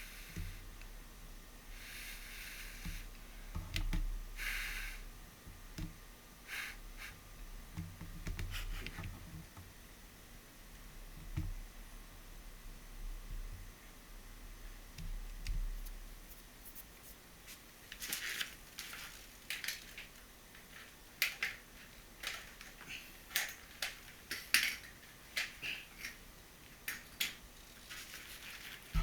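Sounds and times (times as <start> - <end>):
faint steady background: 0.0 - 29.0.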